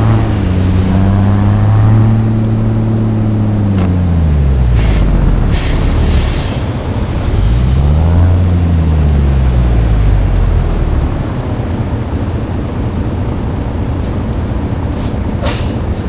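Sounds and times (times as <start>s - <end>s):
diesel engine revving: 0.0s - 12.9s.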